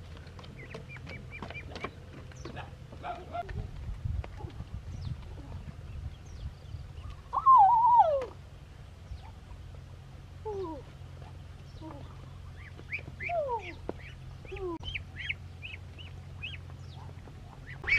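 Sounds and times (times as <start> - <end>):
birds calling: 0.0 - 17.9.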